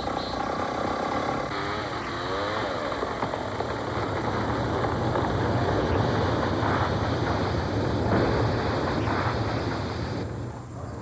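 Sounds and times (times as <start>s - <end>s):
chainsaw cutting into tree: 0.0s - 10.2s.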